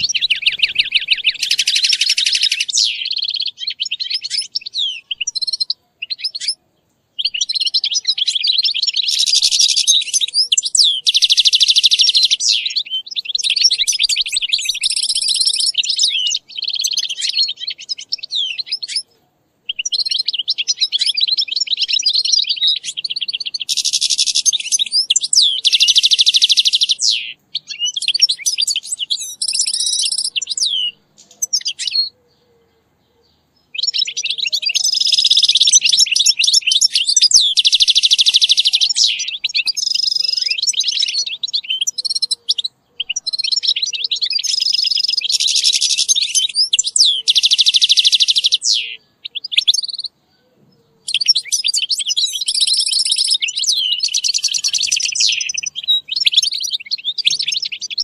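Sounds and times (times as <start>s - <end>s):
goldfinch song: 0.0s - 58.0s.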